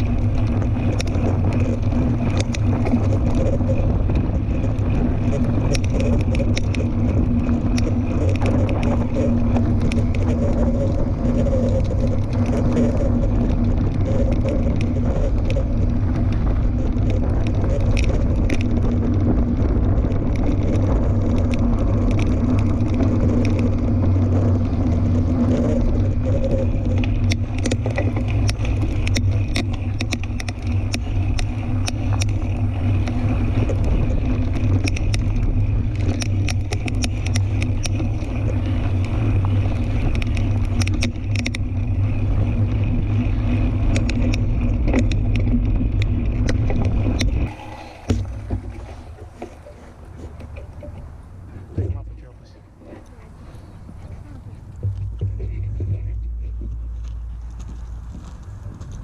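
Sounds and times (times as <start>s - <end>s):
bike clicks and rattles: 0.0s - 59.0s
bike tyres rumbling on trail: 0.0s - 59.0s.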